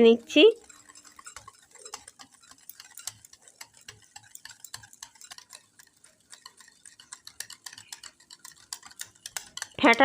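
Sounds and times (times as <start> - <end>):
whisk clicking against bowl: 0.0 - 10.0.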